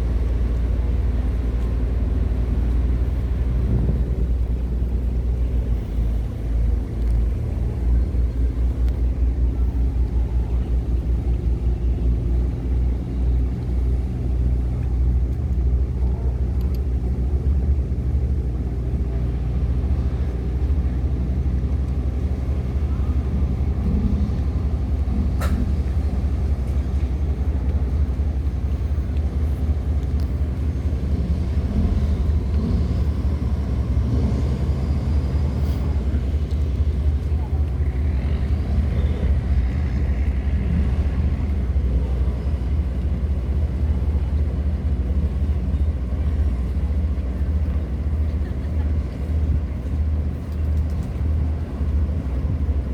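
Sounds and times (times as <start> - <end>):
diesel engine rumbling: 0.0 - 52.9.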